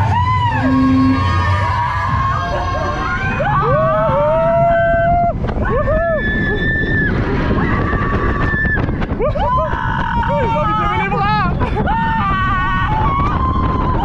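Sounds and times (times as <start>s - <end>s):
riders whooping and screaming: 0.0s - 14.0s
roller coaster rumbling on track: 0.0s - 14.0s
rushing wind: 0.0s - 14.0s.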